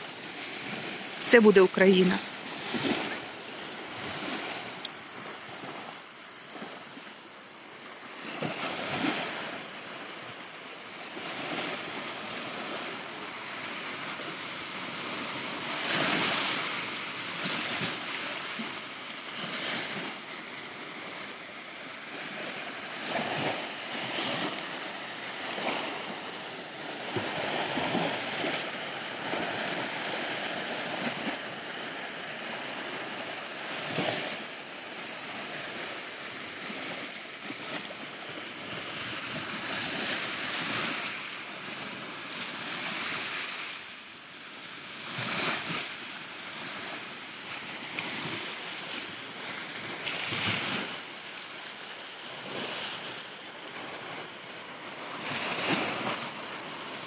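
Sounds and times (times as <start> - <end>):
waves washing onto beach: 0.0 - 57.0.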